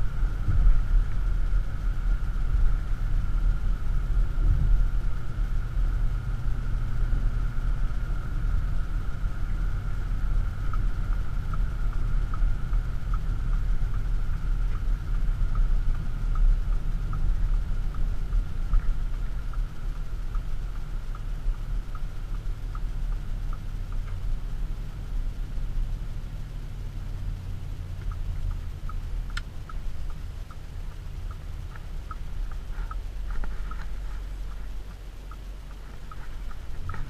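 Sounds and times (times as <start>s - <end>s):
diesel engine and road noise: 0.0s - 37.0s
light regular ticking: 0.0s - 37.0s.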